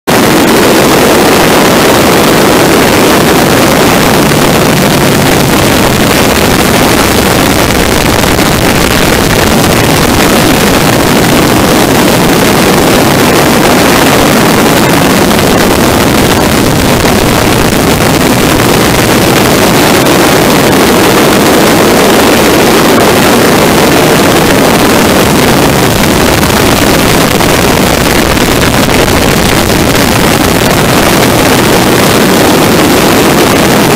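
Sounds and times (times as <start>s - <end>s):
wind rushing over microphone: 0.0s - 33.9s
biplane engine running: 0.1s - 33.9s.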